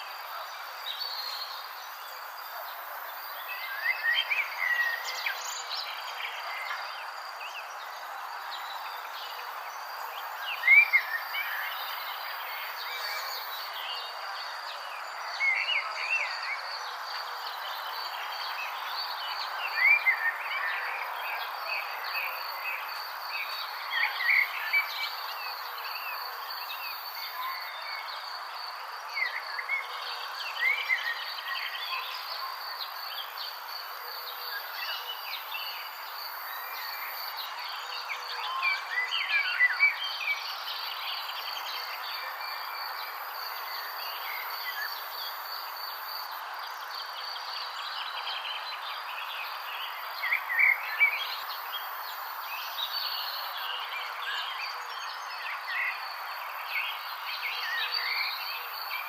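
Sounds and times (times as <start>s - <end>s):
background hiss: 0.0s - 59.0s.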